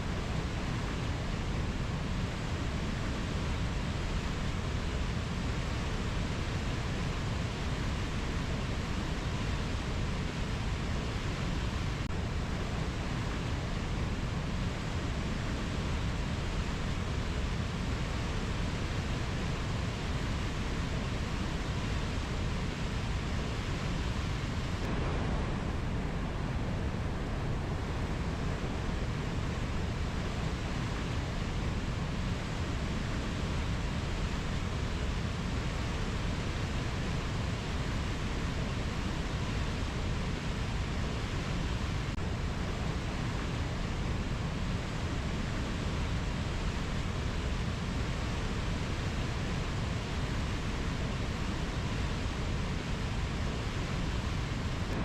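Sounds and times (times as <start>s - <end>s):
rainforest ambience rushing noise: 0.0s - 55.0s.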